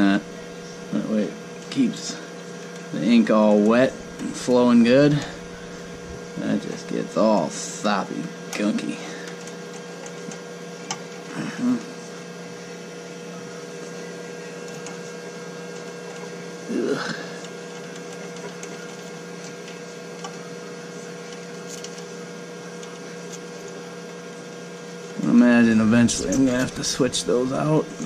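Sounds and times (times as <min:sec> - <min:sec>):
printer electrical hum: 0:00.0 - 0:28.0.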